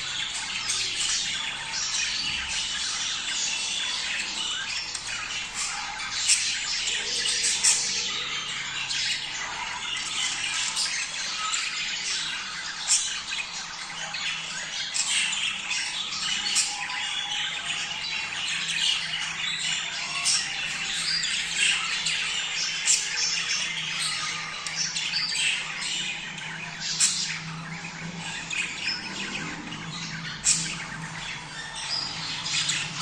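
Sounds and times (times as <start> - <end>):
budgerigars chattering: 0.0 - 33.0.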